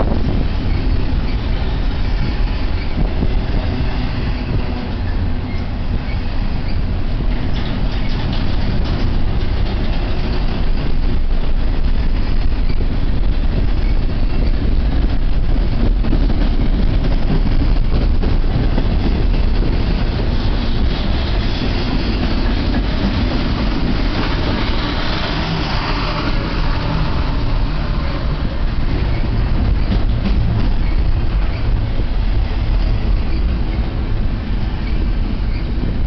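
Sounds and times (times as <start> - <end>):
freight train wheels rumbling: 0.0 - 36.0
rail clicks: 0.0 - 36.0.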